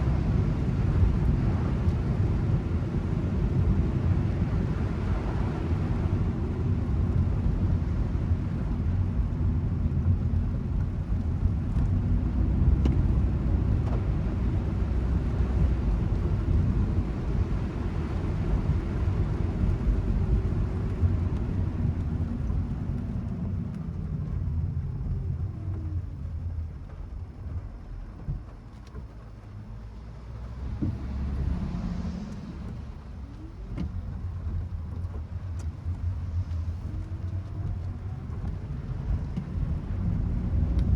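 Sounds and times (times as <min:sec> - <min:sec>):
car road and engine noise: 0:00.0 - 0:40.9.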